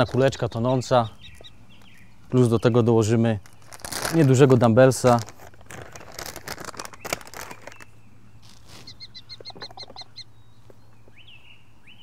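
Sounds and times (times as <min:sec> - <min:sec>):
bird calling: 0:00.0 - 0:04.1, 0:05.7 - 0:12.0.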